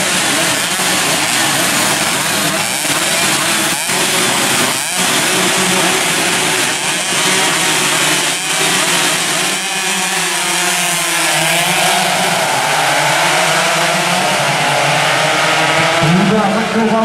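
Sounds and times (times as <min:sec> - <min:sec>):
two-stroke motorcycles revving: 0:00.0 - 0:17.0.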